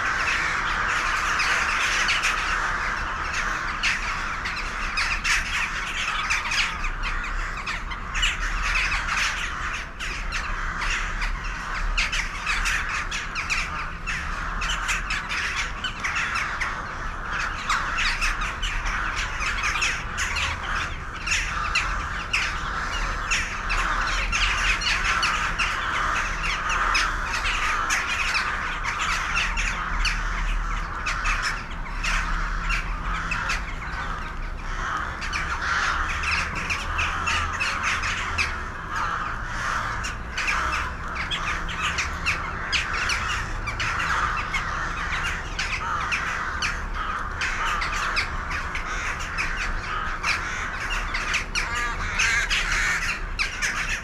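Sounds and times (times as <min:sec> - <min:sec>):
flock of birds chattering: 0:00.0 - 0:54.0.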